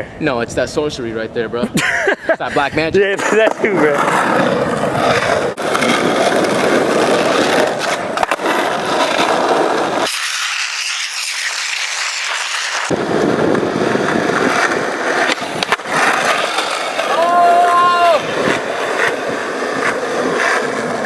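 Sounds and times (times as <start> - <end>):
skateboard wheels rolling on asphalt: 2.4 - 21.0
skateboard clacks: 3.1 - 21.0.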